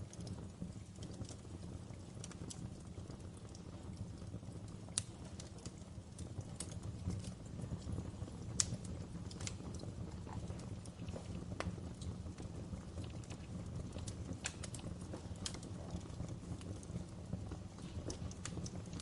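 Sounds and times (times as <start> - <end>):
loud fire pops: 0.0 - 19.0
wood fire crackling: 0.0 - 19.0.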